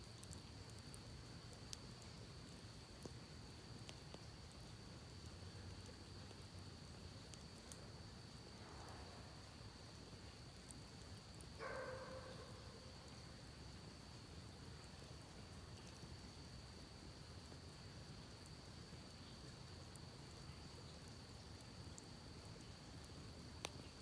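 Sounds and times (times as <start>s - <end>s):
campfire crackle: 0.0s - 24.0s.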